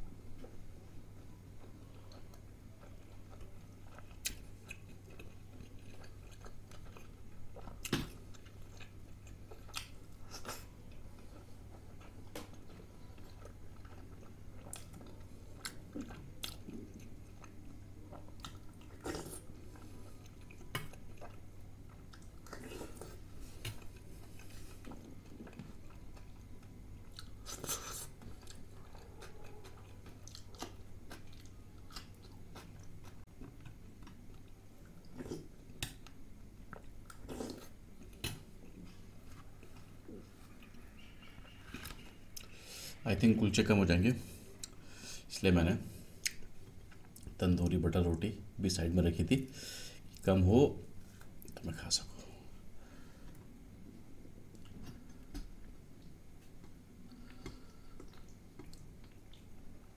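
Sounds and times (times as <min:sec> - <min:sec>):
person chewing food: 0:00.4 - 0:43.0, 0:44.3 - 0:45.0, 0:46.1 - 0:47.4, 0:52.9 - 0:59.9.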